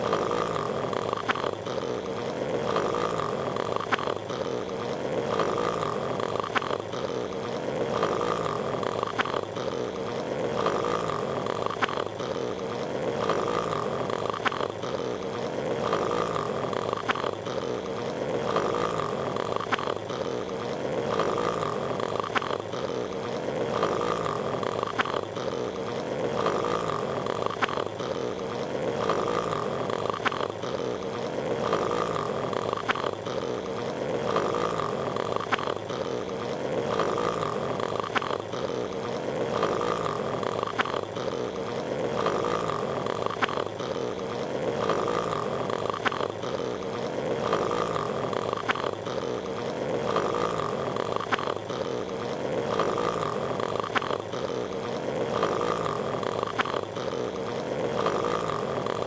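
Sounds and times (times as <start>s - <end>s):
cartoon snoring: 0.0s - 59.0s.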